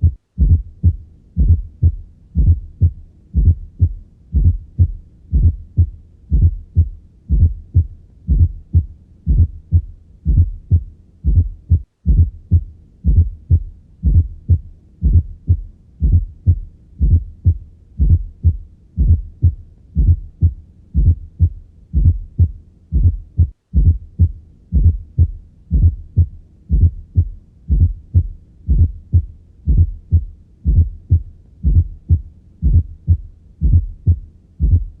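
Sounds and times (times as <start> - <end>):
heartbeats through stethoscope: 0.0 - 35.0.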